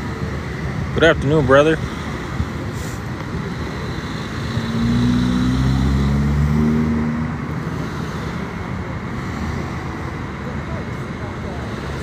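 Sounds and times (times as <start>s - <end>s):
vehicle engine passing close: 0.0s - 10.4s
street traffic noise: 0.0s - 12.0s.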